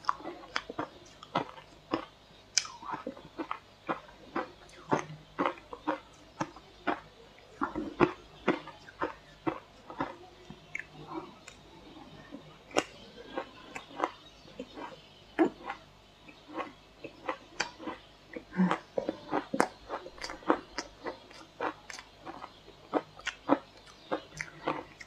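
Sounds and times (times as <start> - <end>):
person chewing crunchy ice: 0.0 - 11.6, 12.7 - 25.0.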